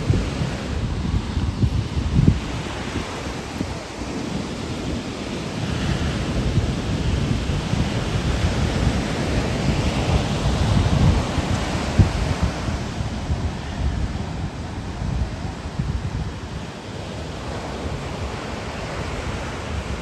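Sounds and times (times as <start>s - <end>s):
ocean surf washing on shore: 0.0s - 20.0s
wind buffeting microphone: 0.0s - 20.0s.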